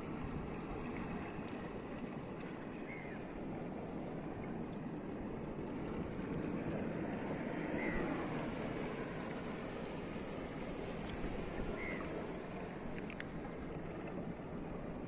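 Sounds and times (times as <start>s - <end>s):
seawater lapping over reef: 0.0s - 15.0s.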